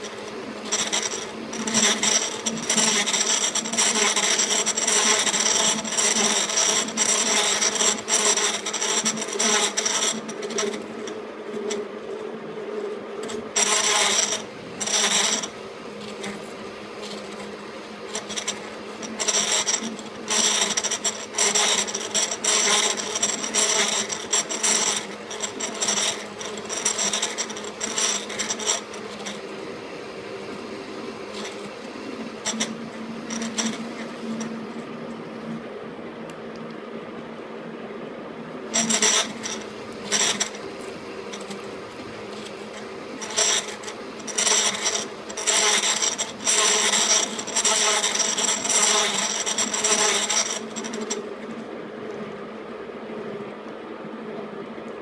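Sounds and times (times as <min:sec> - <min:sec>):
cutting tool scraping metal: 0:00.0 - 0:11.8, 0:13.2 - 0:29.6, 0:31.2 - 0:34.5, 0:38.8 - 0:51.4
lathe humming: 0:00.0 - 0:35.3, 0:38.6 - 0:52.5.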